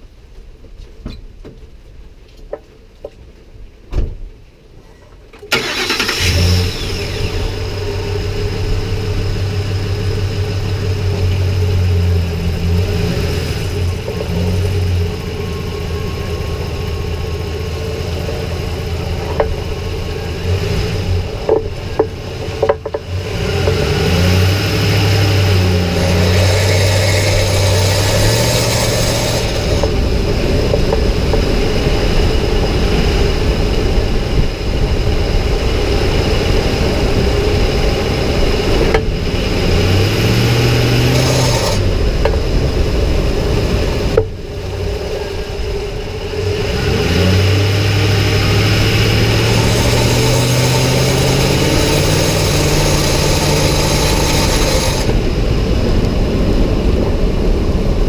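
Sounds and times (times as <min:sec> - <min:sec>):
pickup truck driving: 0:05.5 - 0:58.0
low drone rising in pitch: 0:06.0 - 0:58.0.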